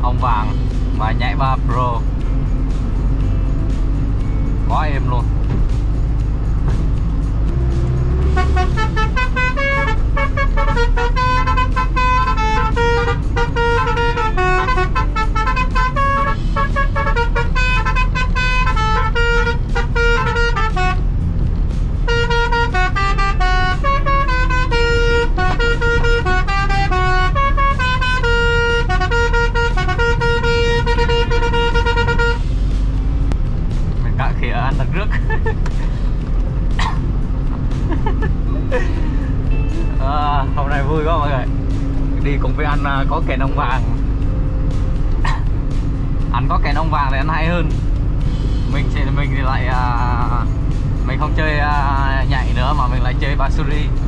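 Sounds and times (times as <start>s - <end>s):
musical truck horn melody: 0.0s - 34.0s, 34.8s - 54.0s
truck engine rumble: 0.0s - 54.0s.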